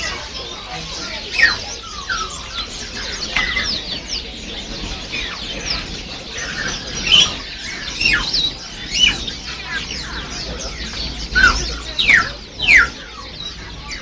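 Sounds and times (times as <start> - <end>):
loud bird call: 0.0 - 14.0
songbirds chirping: 0.0 - 14.0.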